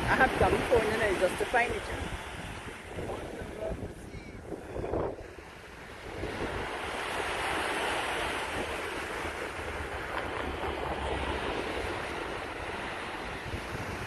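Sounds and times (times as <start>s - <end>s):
rushing wash of surf: 0.0s - 14.0s
wind buffeting microphone: 0.0s - 14.0s.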